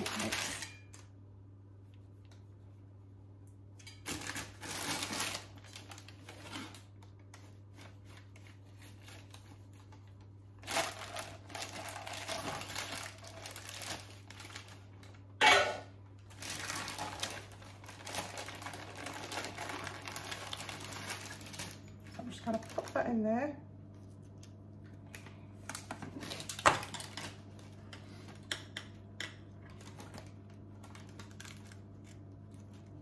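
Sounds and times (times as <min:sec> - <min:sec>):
parchment rustling and crinkling: 0:00.0 - 0:01.1, 0:01.8 - 0:15.4, 0:16.2 - 0:28.4, 0:29.4 - 0:33.0.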